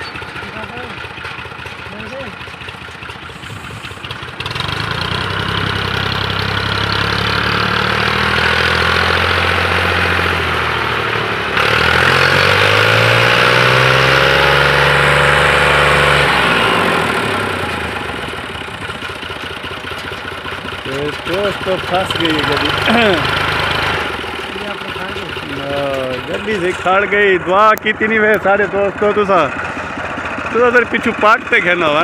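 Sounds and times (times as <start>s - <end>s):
diesel tractor engine labouring: 0.0s - 32.0s.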